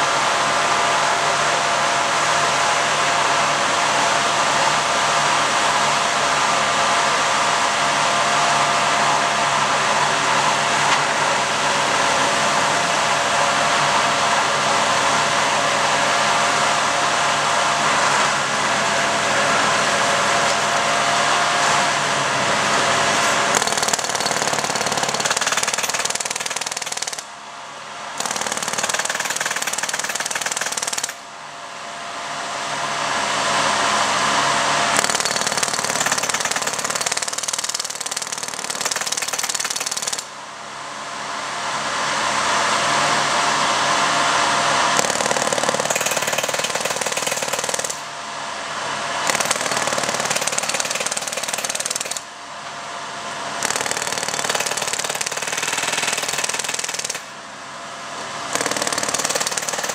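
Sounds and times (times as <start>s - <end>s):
track maintenance machinery running: 0.0s - 59.9s.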